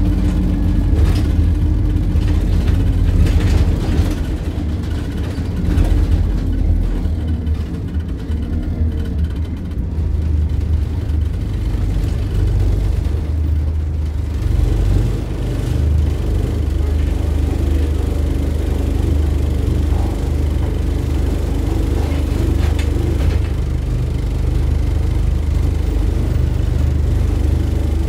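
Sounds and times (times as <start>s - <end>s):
bus diesel engine drone: 0.0s - 28.0s.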